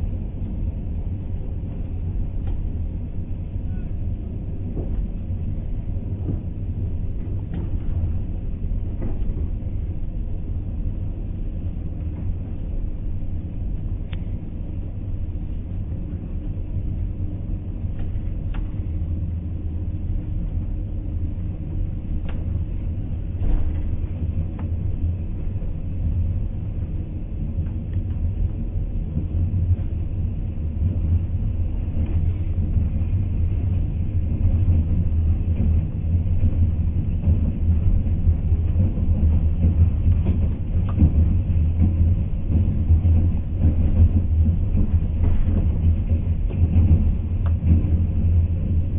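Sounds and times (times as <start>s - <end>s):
train rumbling on rails: 0.0s - 48.9s.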